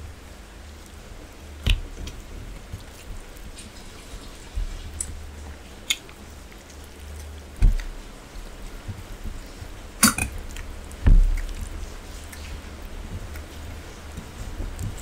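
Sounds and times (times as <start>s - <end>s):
fingers squishing rice and curry: 0.7s - 15.0s
chewing: 2.1s - 15.0s.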